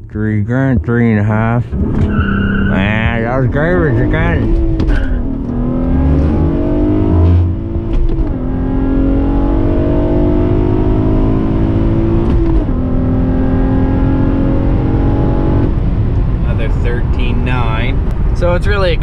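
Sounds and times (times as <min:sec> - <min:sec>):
car engine accelerating through gears: 0:01.6 - 0:18.4.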